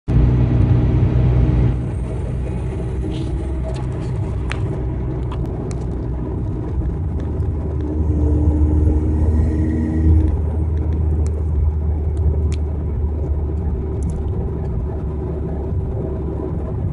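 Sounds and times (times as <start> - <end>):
car engine rumbling: 0.0 - 16.9.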